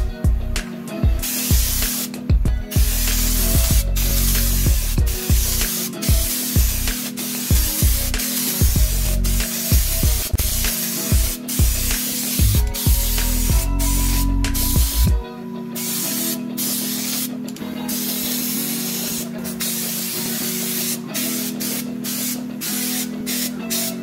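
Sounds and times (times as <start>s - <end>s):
background music: 0.0s - 24.0s
spray gun hissing: 0.7s - 24.0s.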